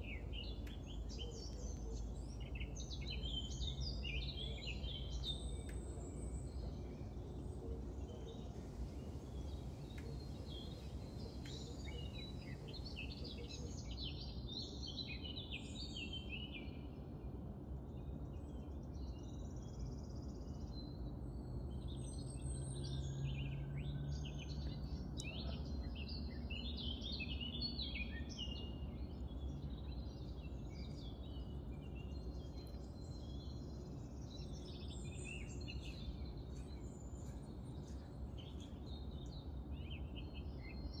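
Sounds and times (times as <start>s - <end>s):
small birds chirping: 0.0s - 17.0s, 18.0s - 41.0s
faint low drone: 0.0s - 41.0s.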